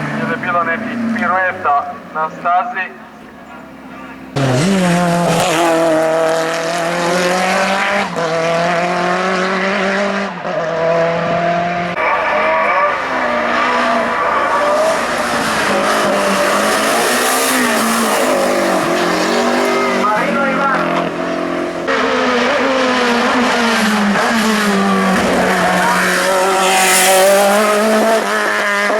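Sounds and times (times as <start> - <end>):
racing car engine accelerating: 3.3 - 28.9.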